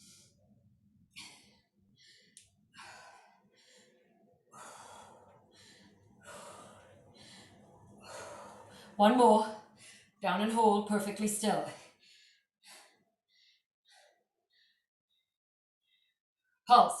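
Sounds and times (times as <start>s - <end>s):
woman breathing hard: 0.0s - 9.0s, 9.6s - 10.2s, 11.7s - 16.2s.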